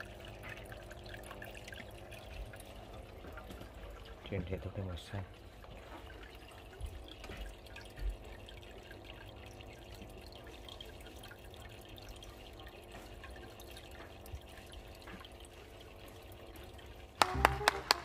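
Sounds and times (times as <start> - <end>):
low steady hum: 0.0 - 18.0
water trickling and splashing: 0.0 - 18.0.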